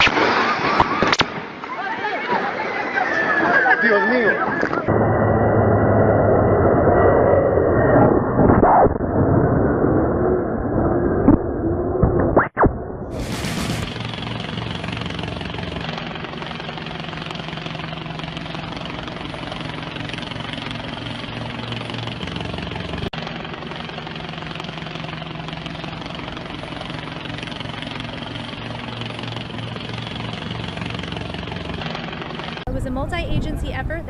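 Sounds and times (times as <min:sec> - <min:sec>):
engine drone: 0:04.5 - 0:12.2, 0:12.8 - 0:34.0.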